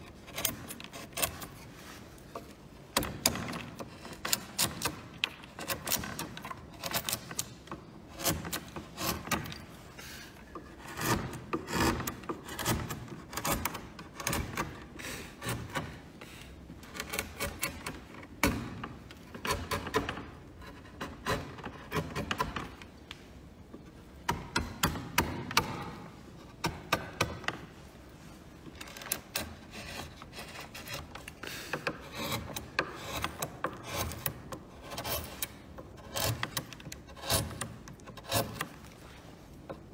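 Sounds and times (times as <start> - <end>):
chisel cutting wood: 0.1 - 16.1, 16.8 - 22.8, 28.9 - 39.0.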